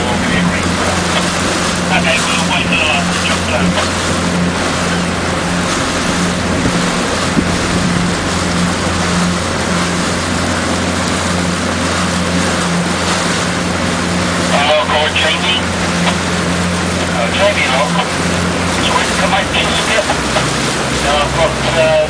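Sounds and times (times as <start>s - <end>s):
hiss of wind and water: 0.0s - 22.0s
motorboat engine humming: 0.0s - 22.0s.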